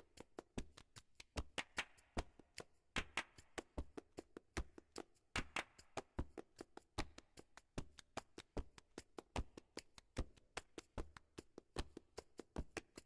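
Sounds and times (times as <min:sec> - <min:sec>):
dry percussion music: 0:00.0 - 0:13.0.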